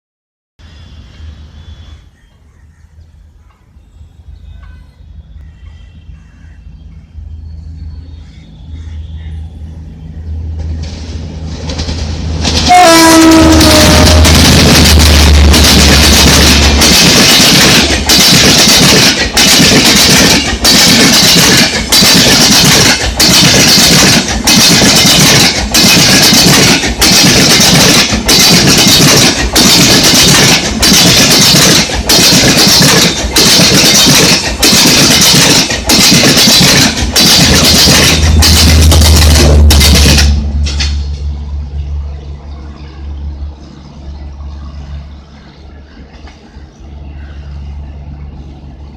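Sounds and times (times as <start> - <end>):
electric locomotive hum: 0.6 - 48.9
train coaches rushing past: 3.2 - 48.9.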